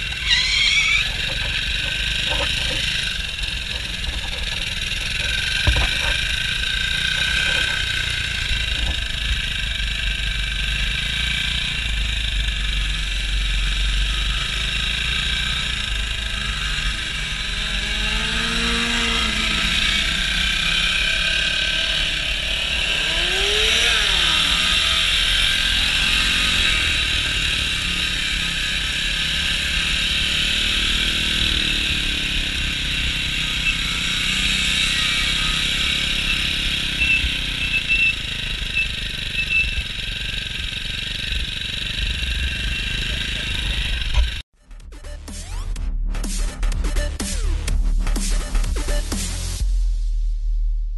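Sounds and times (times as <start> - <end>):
mini bike engines revving: 0.0 - 44.4.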